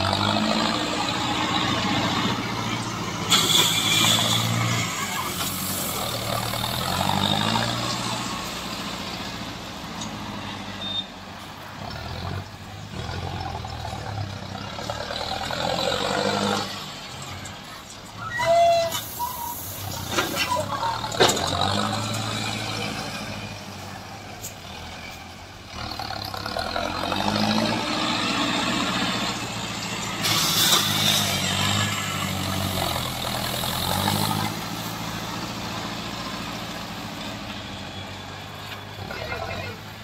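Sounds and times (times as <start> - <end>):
tractor diesel engine revving: 0.0 - 40.0.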